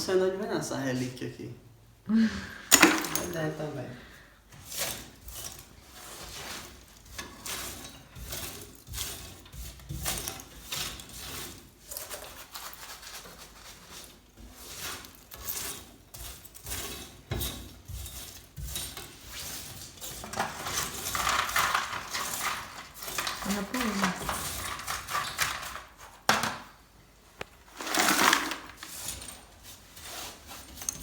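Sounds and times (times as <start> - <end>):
ash being scraped from fireplace: 4.4 - 26.3, 27.5 - 31.0.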